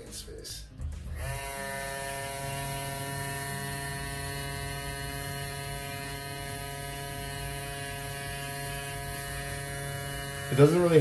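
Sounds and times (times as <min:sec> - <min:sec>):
compressor motor humming: 0:00.8 - 0:11.0.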